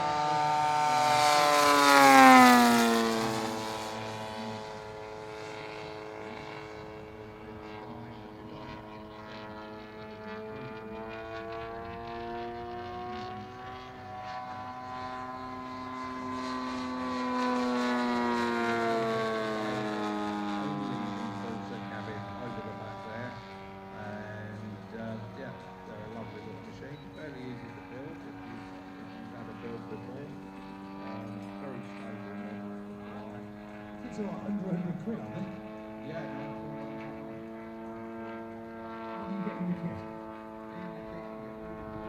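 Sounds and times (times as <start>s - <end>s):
model plane engine flying past: 0.0s - 42.0s.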